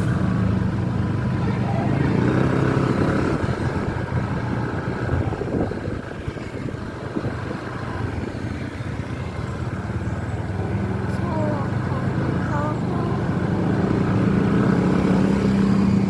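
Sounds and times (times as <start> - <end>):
buses driving by: 0.0 - 16.0
road traffic: 0.0 - 16.0.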